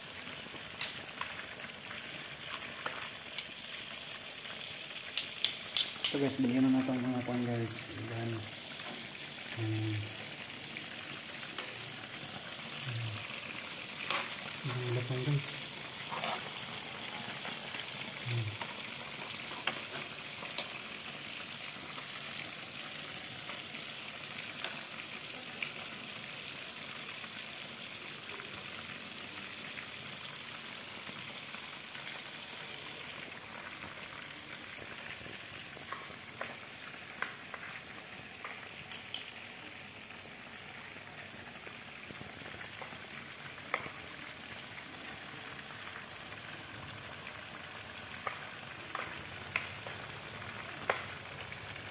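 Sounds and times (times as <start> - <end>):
chicken deep-frying in oil: 0.0 - 51.9.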